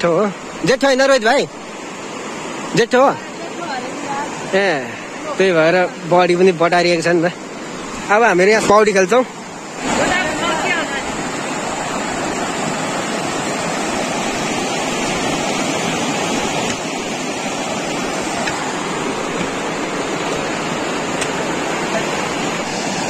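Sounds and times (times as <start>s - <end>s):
water rushing over rocks: 0.0s - 23.0s.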